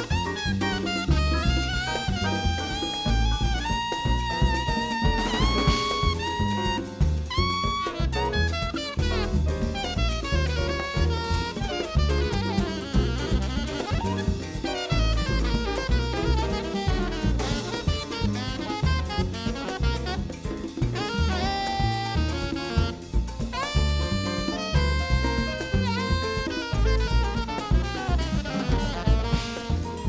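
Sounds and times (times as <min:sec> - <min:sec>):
jazz band playing: 0:00.0 - 0:30.0
saxophone melodic runs: 0:00.0 - 0:30.0.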